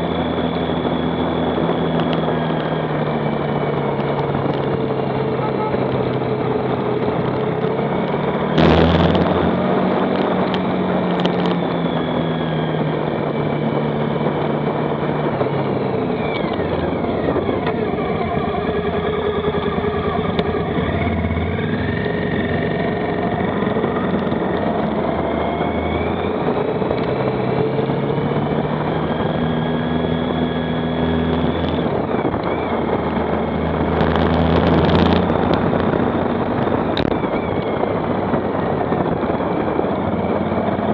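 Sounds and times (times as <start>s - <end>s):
motorcycle engine running: 0.0s - 40.9s
wind rushing past microphone: 0.0s - 40.9s.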